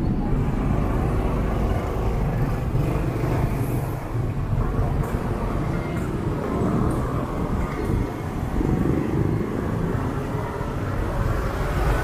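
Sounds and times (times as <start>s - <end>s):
motorcycle engine and road noise: 0.0s - 12.0s
surrounding traffic: 0.0s - 12.0s.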